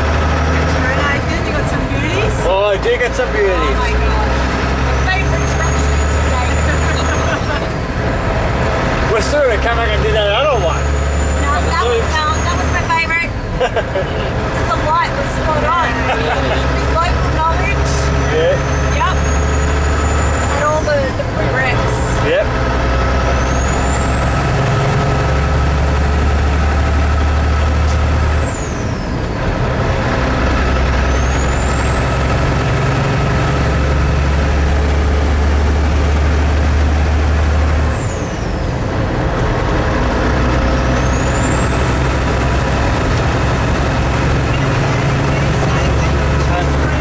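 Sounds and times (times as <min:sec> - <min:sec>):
diesel truck engine under load: 0:00.0 - 0:47.0.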